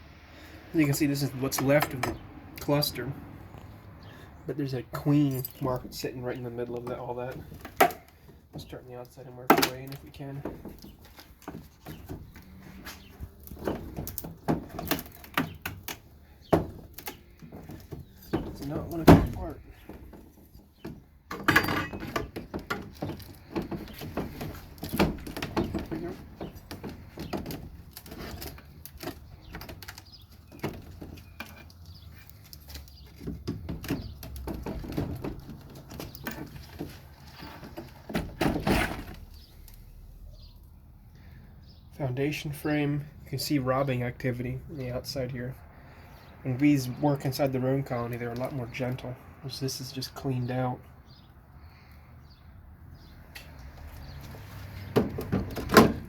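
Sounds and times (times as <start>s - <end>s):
wooden frames scraping and creaking: 0.7s - 56.0s.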